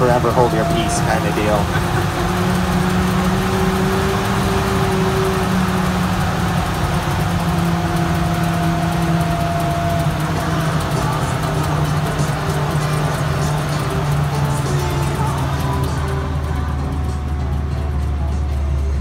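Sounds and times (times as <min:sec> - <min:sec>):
vehicle engine drone with whine: 0:00.0 - 0:19.0.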